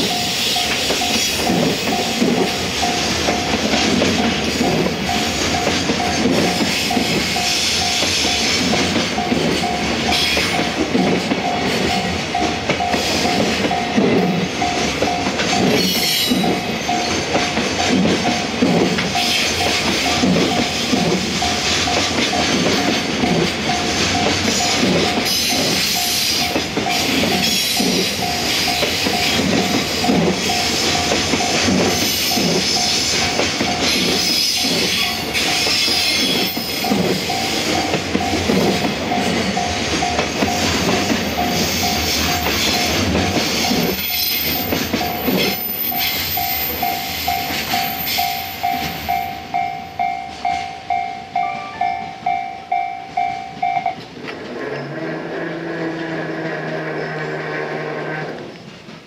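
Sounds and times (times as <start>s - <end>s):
freight train wheels clattering: 0.0s - 57.0s, 58.4s - 59.0s.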